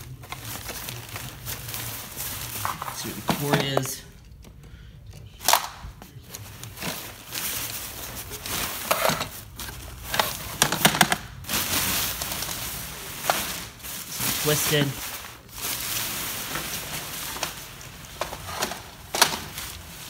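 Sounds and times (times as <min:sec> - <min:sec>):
rustling: 0:00.0 - 0:04.1, 0:06.0 - 0:20.0.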